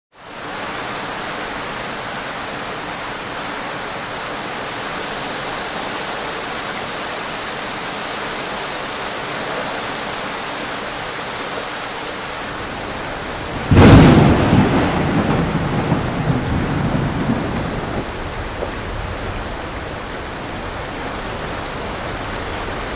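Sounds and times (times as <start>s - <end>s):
steady rain falling: 0.2s - 22.9s.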